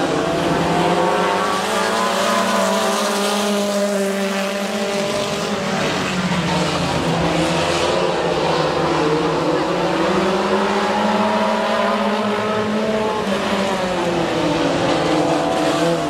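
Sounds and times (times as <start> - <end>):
race car engines running: 0.0 - 16.0.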